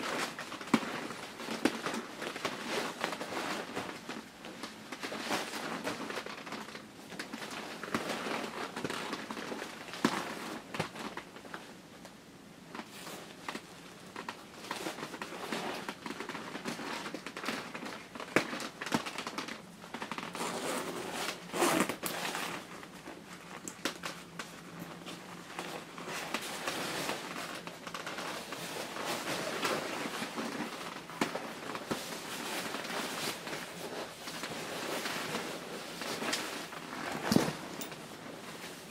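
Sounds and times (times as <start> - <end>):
nylon fabric rustling: 0.0 - 12.0, 12.7 - 38.9.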